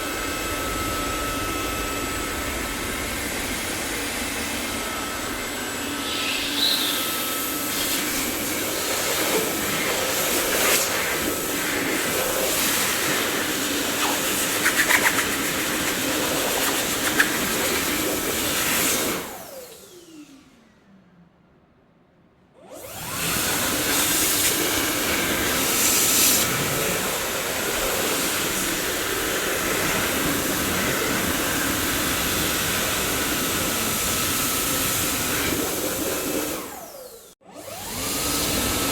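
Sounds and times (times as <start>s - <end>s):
vacuum cleaner running: 0.0s - 20.8s, 22.6s - 38.9s.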